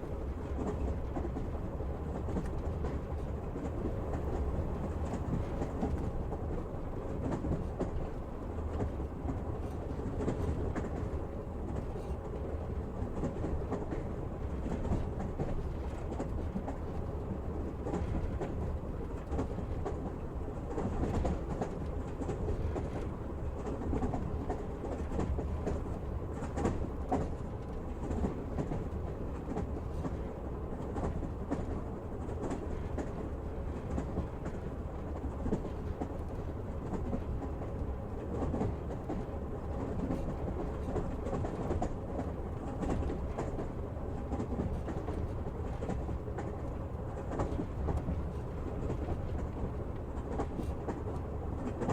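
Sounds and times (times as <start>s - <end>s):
train carriage rumble: 0.0s - 51.9s.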